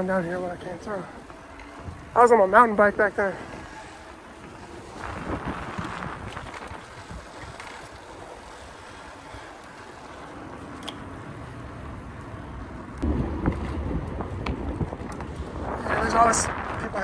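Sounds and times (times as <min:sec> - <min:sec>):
road rumble: 0:00.0 - 0:17.0
wind buffeting microphone: 0:00.0 - 0:17.0.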